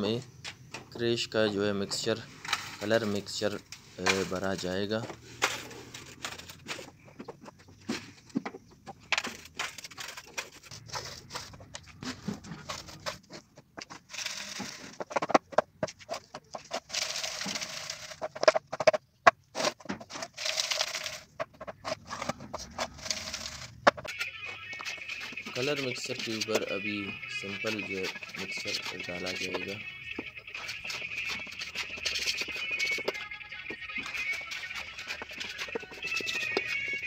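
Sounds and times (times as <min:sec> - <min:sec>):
gritty mix rattling in mould: 0:00.0 - 0:37.0
tin scoop scraping plastic moulds: 0:01.4 - 0:37.0.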